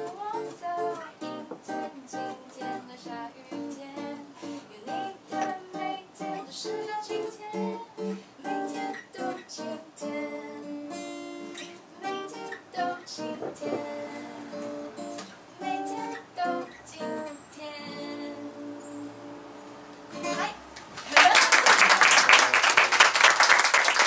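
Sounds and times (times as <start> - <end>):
acoustic guitar playing: 0.0 - 20.7.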